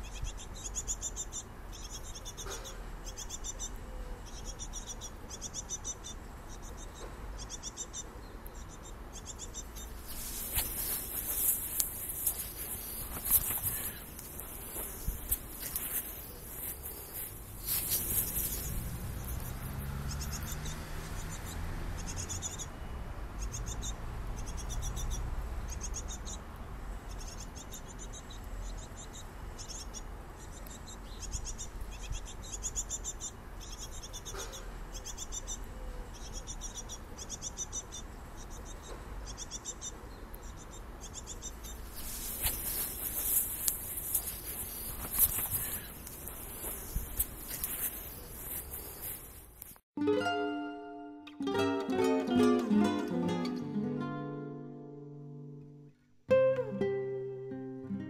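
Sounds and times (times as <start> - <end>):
nestlings buzzy chirping: 0.0 - 49.8.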